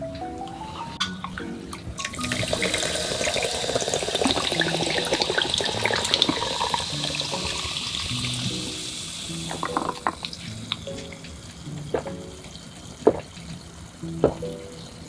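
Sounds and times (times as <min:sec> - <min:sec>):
soda pouring and fizzing: 0:02.0 - 0:14.1.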